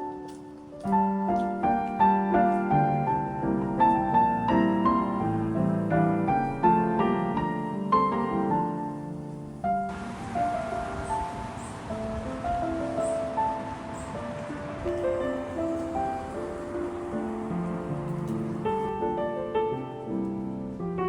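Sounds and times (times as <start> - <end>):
soft piano melody: 0.0 - 21.0
steady background hiss: 0.0 - 21.0.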